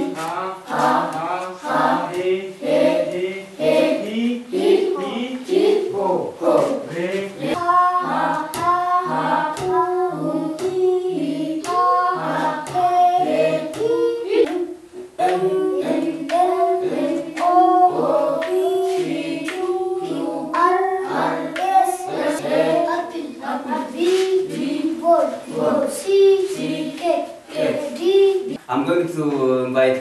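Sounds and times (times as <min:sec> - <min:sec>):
children singing in unison: 0:00.0 - 0:28.6.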